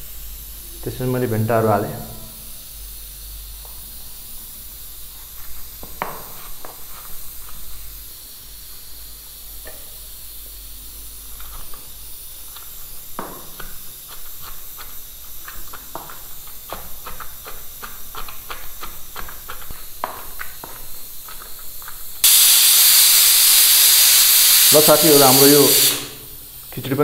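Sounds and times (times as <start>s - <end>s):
cooking hiss on stove: 0.0s - 27.0s.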